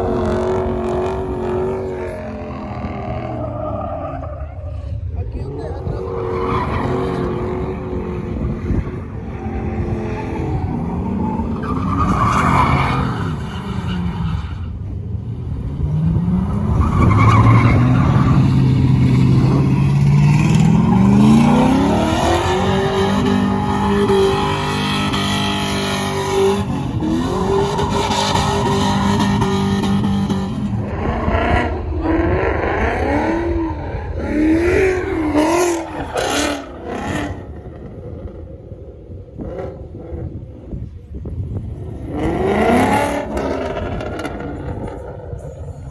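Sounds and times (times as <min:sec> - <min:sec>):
truck engine revving: 0:00.0 - 0:40.8.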